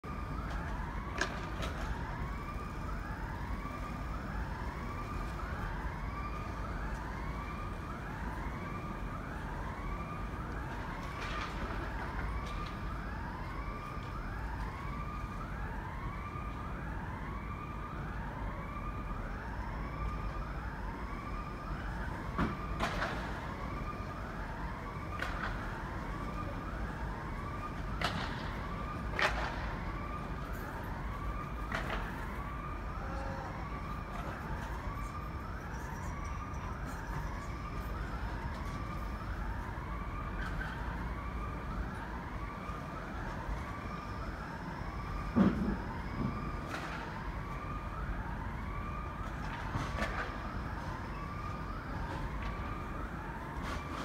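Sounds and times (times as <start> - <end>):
two-tone emergency siren: 0.0 - 54.0.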